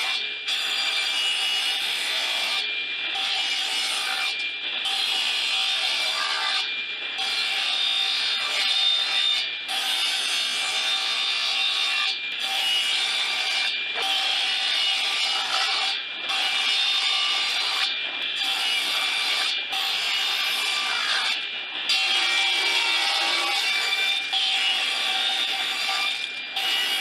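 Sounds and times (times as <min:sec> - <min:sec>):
table saw cutting wood: 0:00.0 - 0:27.0.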